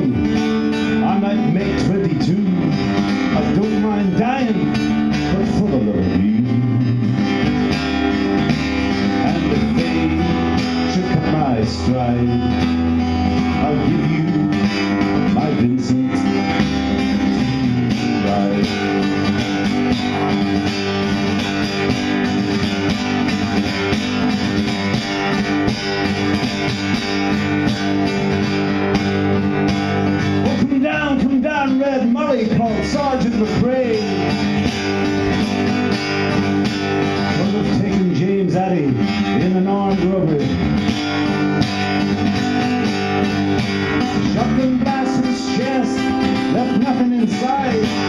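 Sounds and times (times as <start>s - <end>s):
man singing: 0.0s - 25.4s, 29.2s - 41.4s, 43.9s - 48.0s
acoustic guitar playing: 0.0s - 48.0s.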